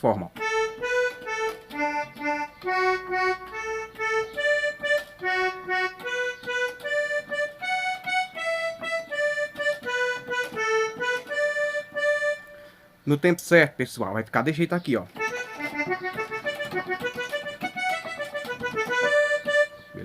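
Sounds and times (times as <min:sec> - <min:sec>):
keyboard accordion melody: 0:00.0 - 0:13.2, 0:15.1 - 0:20.0.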